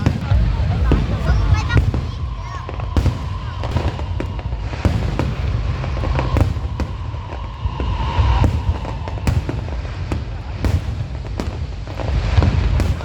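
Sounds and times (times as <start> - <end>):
low rumble of launches: 0.0 - 13.0.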